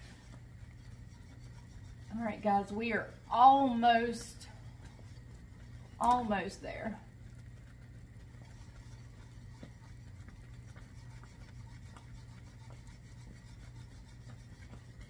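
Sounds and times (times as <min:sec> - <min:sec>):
steady low hum: 0:00.0 - 0:15.0
whisk scraping saucepan: 0:00.0 - 0:15.0.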